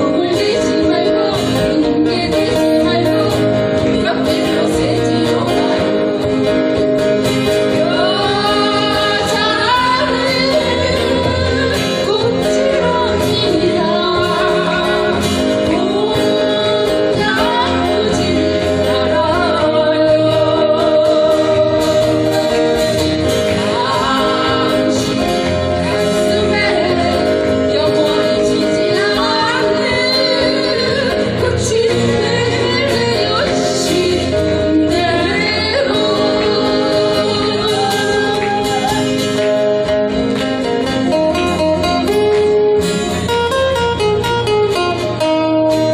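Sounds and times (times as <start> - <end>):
guitar accompaniment: 0.0 - 45.9
person singing pop song: 0.0 - 45.9.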